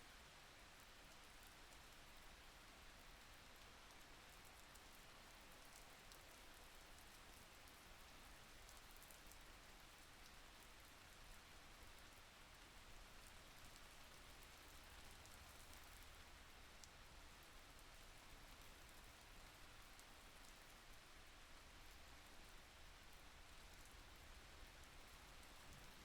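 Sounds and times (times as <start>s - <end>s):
faint steady rain: 0.0s - 26.0s.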